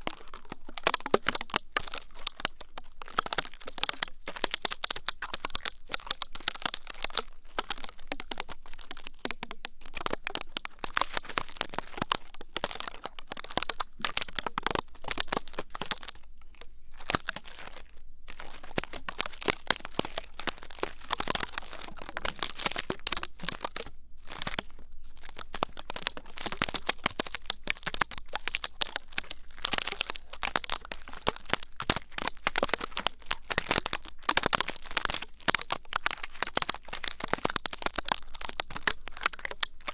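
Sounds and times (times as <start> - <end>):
close crackling and scratching: 0.0 - 39.9
small clicks and scrapes: 0.0 - 39.9.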